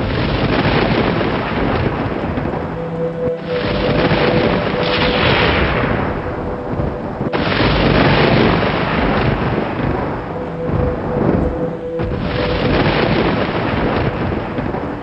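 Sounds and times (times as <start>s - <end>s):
thunder claps and rumbling: 0.0s - 15.0s.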